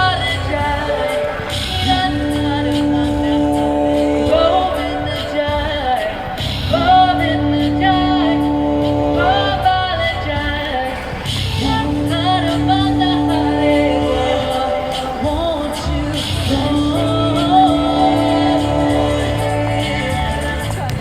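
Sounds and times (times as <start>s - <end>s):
held instrumental notes: 0.0s - 21.0s
woman singing: 0.0s - 21.0s.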